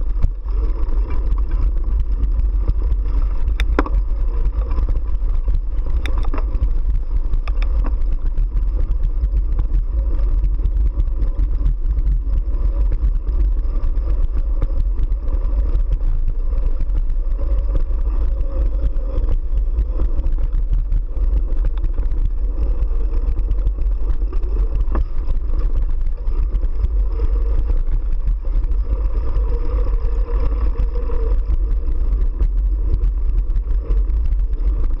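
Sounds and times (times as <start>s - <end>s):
bike tyre noise on dirt: 0.0s - 35.0s
faint bike rattles: 0.0s - 35.0s
wind rumble: 0.0s - 35.0s.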